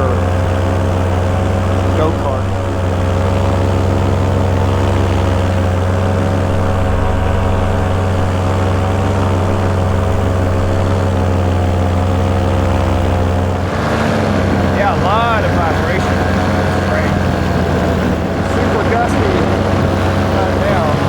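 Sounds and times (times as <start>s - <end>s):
paramotor engine and propeller drone: 0.0s - 21.0s.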